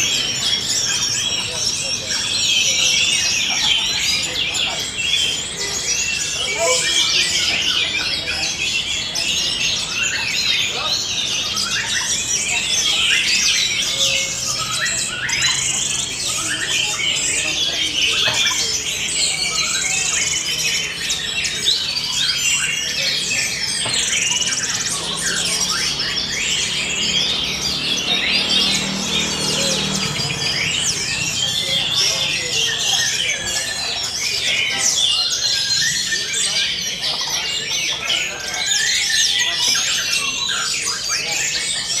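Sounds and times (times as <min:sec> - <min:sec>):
thrush singing: 0:00.0 - 0:38.6.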